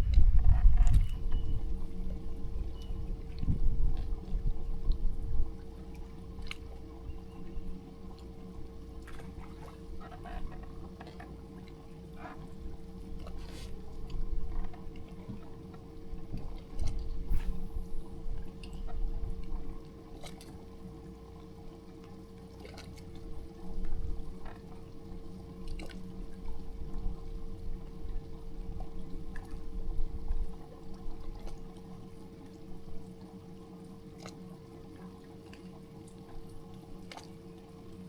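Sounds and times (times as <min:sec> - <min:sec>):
steady hum: 0:00.0 - 0:38.0
water lapping against boat hull: 0:00.0 - 0:38.0.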